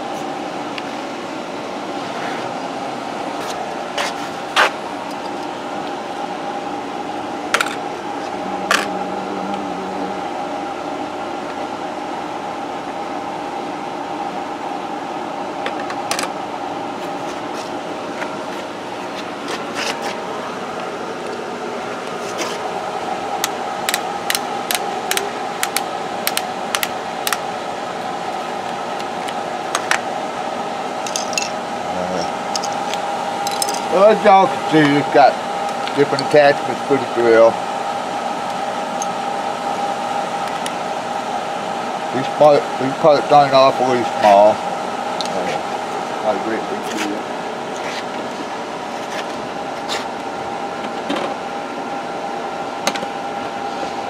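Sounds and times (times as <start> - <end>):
machine hum with held tones: 0.0 - 54.0.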